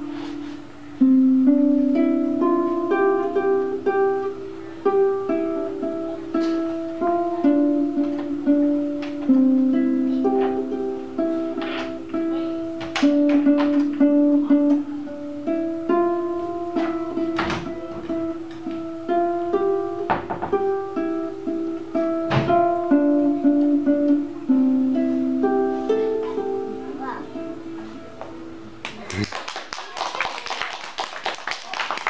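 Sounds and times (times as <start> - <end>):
harp plucked slow tune: 0.0 - 28.8.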